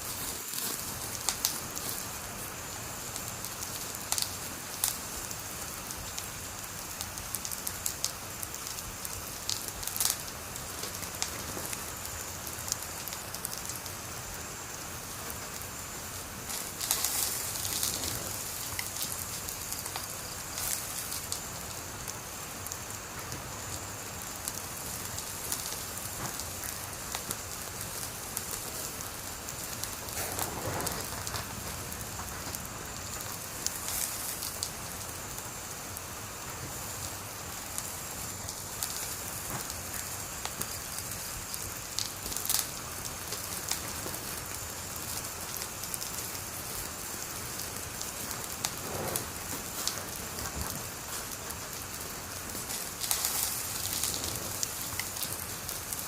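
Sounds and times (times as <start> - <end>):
sharp pops from fire: 0.0 - 56.0
wood fire hissing and crackling: 0.0 - 56.0.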